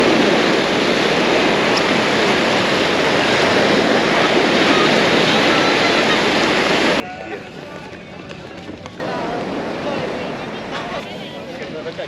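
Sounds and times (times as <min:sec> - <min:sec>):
waves breaking: 0:00.0 - 0:07.0, 0:09.0 - 0:12.0.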